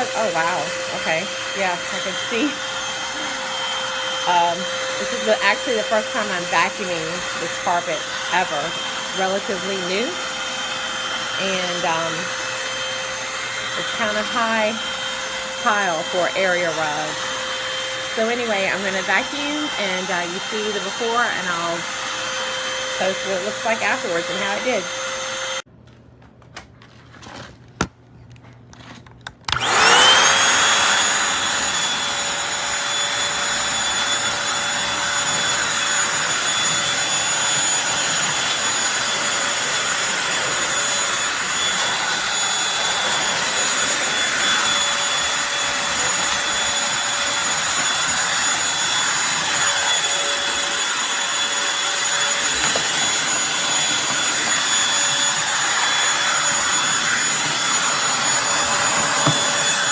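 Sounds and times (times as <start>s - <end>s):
stick vacuum motor whining: 0.0s - 25.7s, 29.2s - 59.9s.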